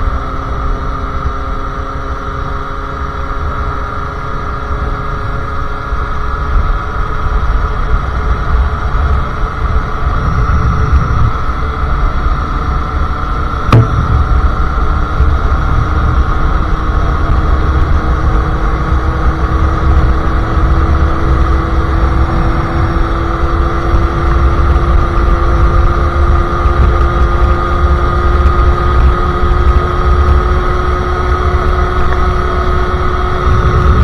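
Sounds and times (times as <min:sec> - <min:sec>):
two-stroke motorcycle engine cruising: 0:00.0 - 0:34.0
wind noise on microphone: 0:06.4 - 0:34.0.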